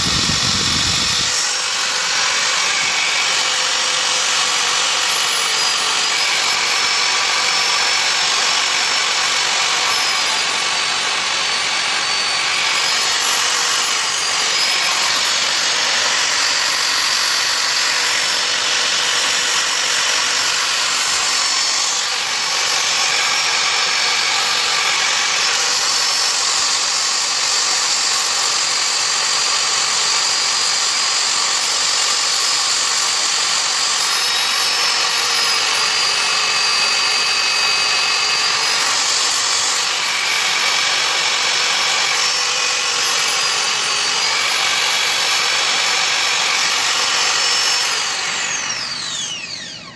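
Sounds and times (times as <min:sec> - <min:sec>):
vacuum cleaner motor whining: 0:00.0 - 0:25.8, 0:32.6 - 0:49.9.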